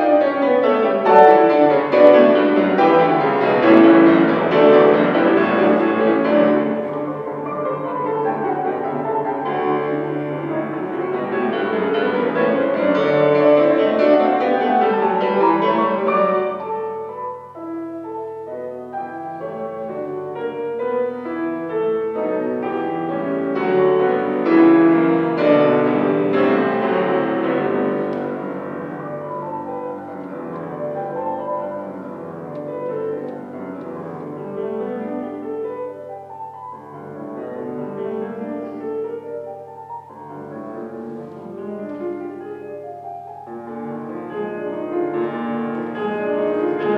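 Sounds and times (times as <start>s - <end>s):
solo classical piano: 0.0s - 46.9s.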